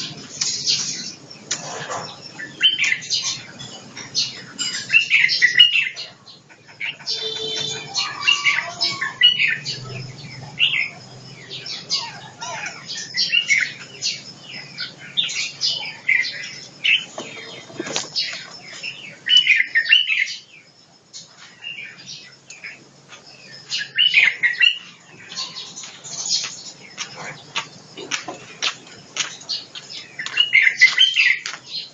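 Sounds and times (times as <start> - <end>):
birds chirping and calling: 0.0 - 31.9.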